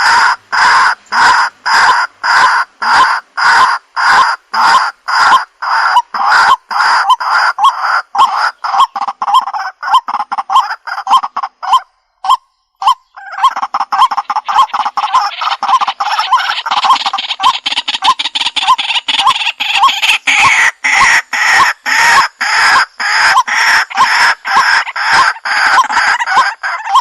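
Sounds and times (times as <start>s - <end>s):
waterhen calling: 0.0s - 27.0s.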